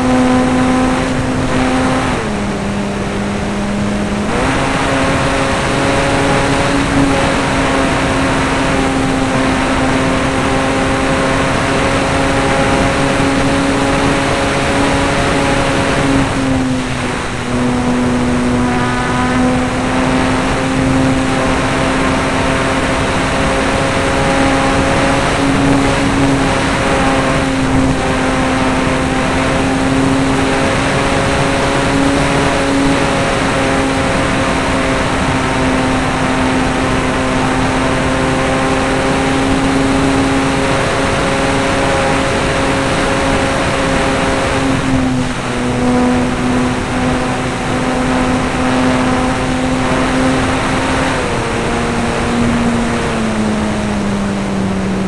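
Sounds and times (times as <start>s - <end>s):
model airplane motor droning: 0.0s - 55.0s
wind rushing over microphone: 0.0s - 55.0s.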